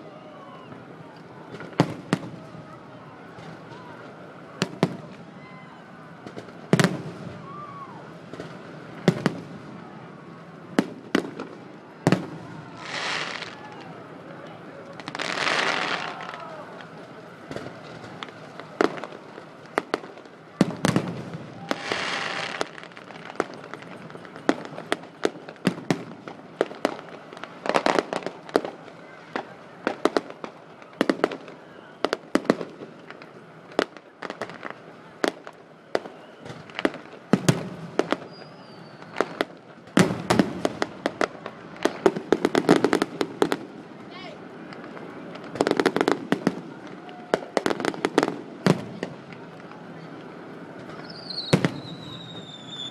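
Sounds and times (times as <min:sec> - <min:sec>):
fireworks bursting with bangs: 0:00.2 - 0:52.9.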